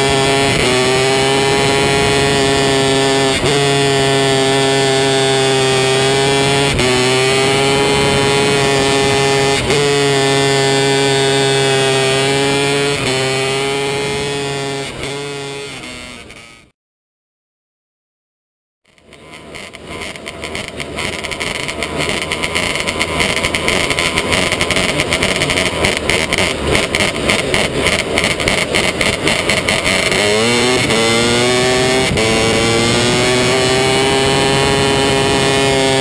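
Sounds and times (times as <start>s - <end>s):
racing car engine revving: 0.0s - 16.7s, 19.0s - 36.0s.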